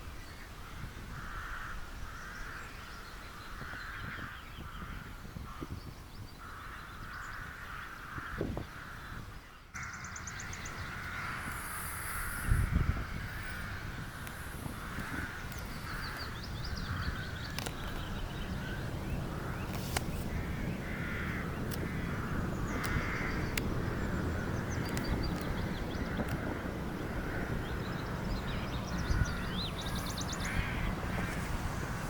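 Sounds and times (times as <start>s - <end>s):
birds cawing: 0.6s - 5.8s, 6.4s - 32.0s.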